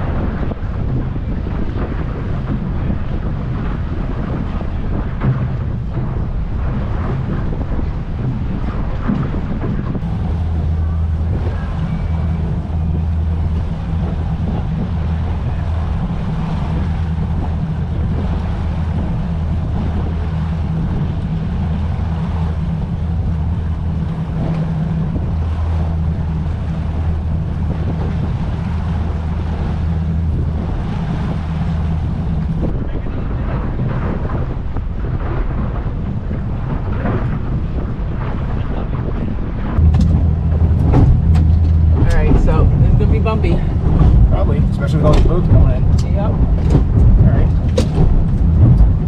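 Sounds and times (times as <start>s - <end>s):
boat engines droning: 0.0s - 49.0s
water rushing past: 0.0s - 49.0s
wind buffeting microphone: 0.0s - 49.0s.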